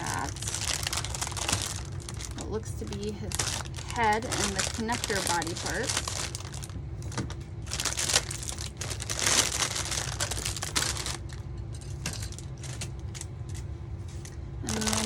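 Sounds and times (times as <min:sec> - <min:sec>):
plastic bags crinkling: 0:00.0 - 0:13.3, 0:14.7 - 0:15.0.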